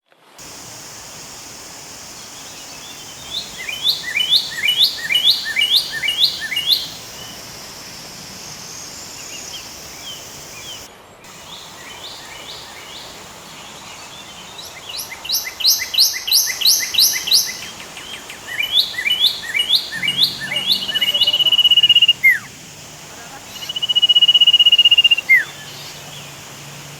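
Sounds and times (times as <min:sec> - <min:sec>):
steady background hiss: 0:00.2 - 0:26.9
bird chirping: 0:00.5 - 0:26.7.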